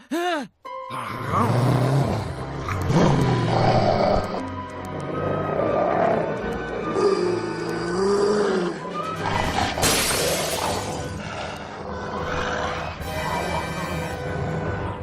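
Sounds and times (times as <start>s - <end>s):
dramatic music: 0.7s - 15.0s
dogs growling and snarling: 0.9s - 15.0s.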